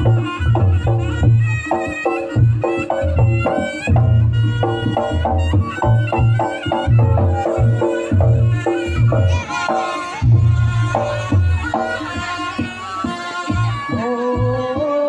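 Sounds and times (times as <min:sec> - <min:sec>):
drums and gongs beating: 0:00.0 - 0:15.0
wind instrument melody: 0:00.0 - 0:15.0.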